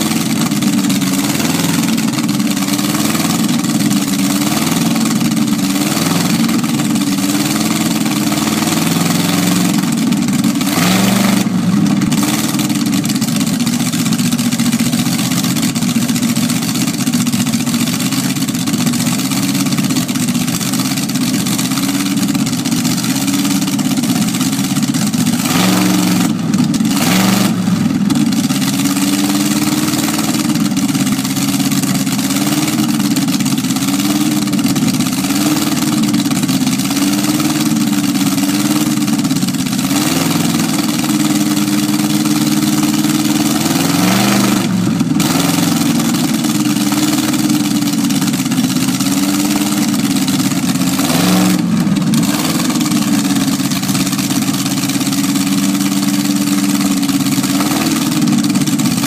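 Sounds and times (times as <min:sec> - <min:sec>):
car engine idling lumpily: 0:00.0 - 0:59.0
engine revving: 0:00.0 - 0:59.0.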